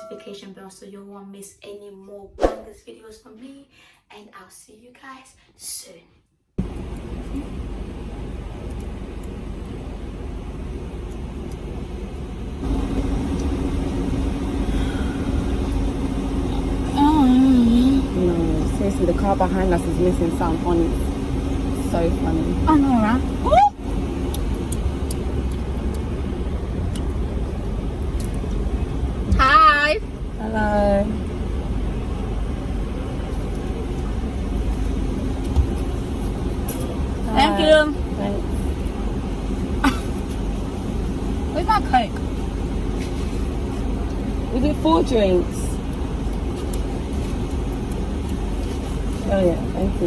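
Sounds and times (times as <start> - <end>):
road rumble inside car: 6.6 - 50.0
steady low hum: 6.6 - 50.0.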